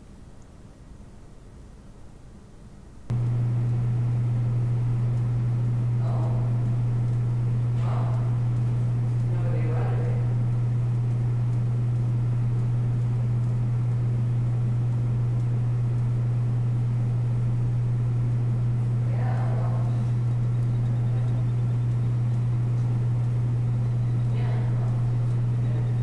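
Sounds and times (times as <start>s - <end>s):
low mechanical drone: 3.0s - 26.0s.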